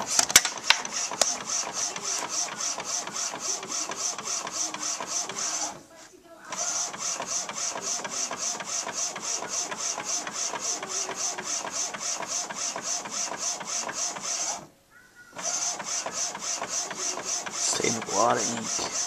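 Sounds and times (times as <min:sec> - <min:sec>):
inkjet printer head whirring: 0:00.0 - 0:19.0.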